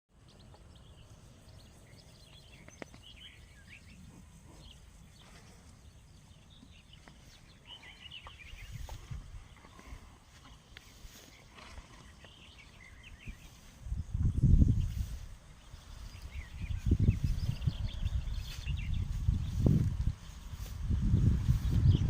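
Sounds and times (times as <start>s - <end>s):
bird chirps: 0.1s - 20.7s.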